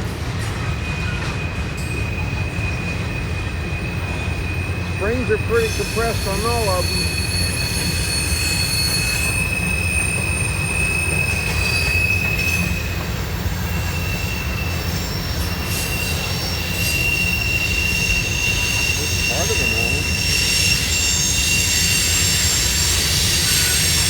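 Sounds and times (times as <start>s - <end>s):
train wheels squealing: 0.0s - 24.0s.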